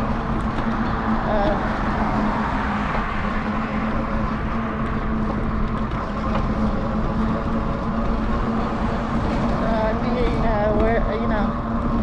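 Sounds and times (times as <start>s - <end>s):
electric bike motor hum: 0.0s - 12.0s
wind and tyre noise: 0.0s - 12.0s.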